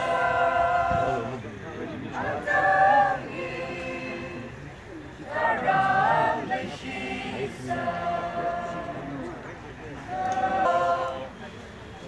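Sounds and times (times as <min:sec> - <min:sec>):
group singing unaccompanied: 0:00.0 - 0:09.4, 0:10.0 - 0:11.6.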